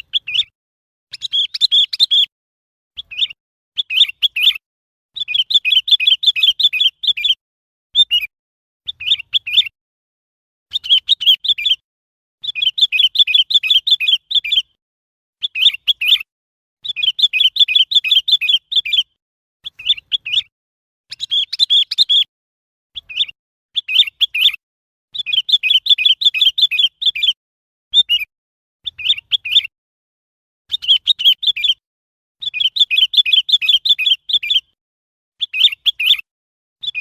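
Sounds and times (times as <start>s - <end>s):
bird chirping: 0.0s - 2.3s, 3.0s - 7.4s, 8.0s - 9.8s, 10.7s - 11.8s, 12.4s - 14.8s, 15.4s - 20.5s, 21.1s - 22.3s, 22.9s - 24.6s, 25.2s - 29.7s, 30.7s - 31.8s, 32.4s - 34.8s, 35.4s - 37.0s.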